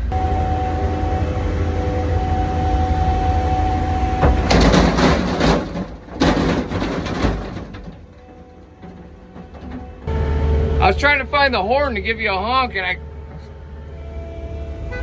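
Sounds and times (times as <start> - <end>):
diesel engine whining: 0.0 - 15.0.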